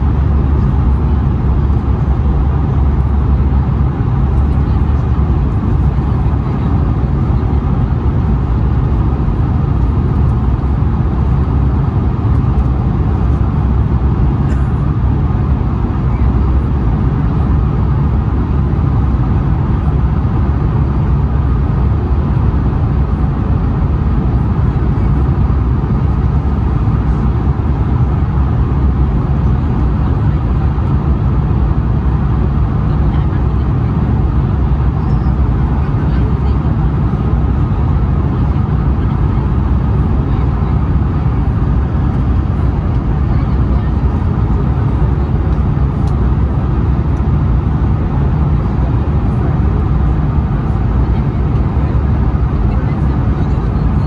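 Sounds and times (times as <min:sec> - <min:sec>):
jet engine rumble: 0:00.0 - 0:54.0.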